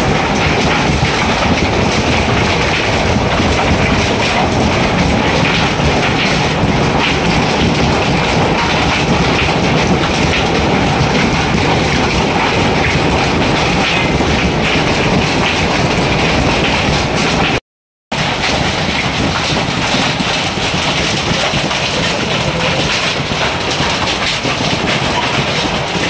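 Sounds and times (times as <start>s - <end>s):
hailstones pelting: 0.0s - 26.0s.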